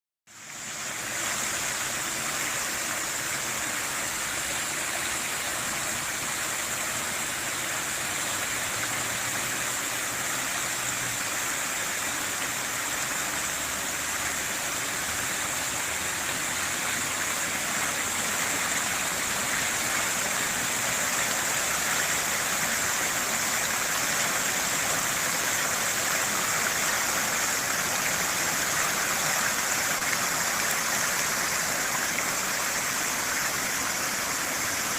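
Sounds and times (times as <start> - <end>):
fountain water splashing: 0.3 - 34.9.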